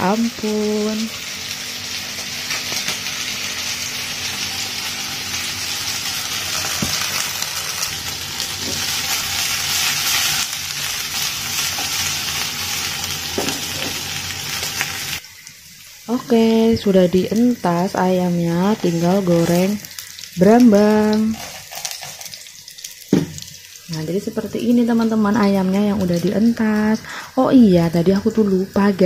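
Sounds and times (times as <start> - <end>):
chicken wings sizzling in oil: 0.0 - 29.0.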